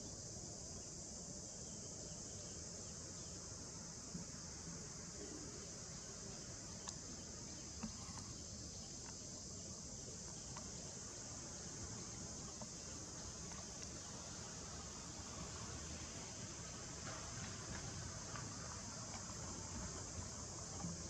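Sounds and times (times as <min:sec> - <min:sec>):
insect chorus drone: 0:00.0 - 0:21.0
faint ticks: 0:04.0 - 0:21.0.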